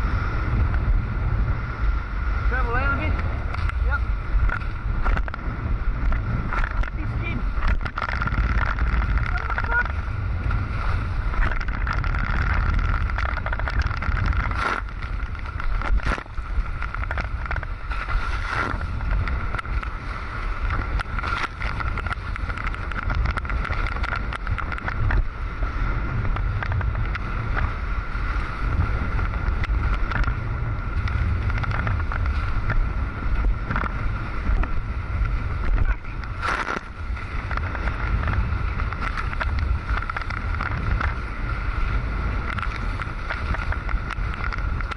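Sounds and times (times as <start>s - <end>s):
water rushing past hulls: 0.0s - 44.9s
wind buffeting microphone: 0.0s - 44.9s.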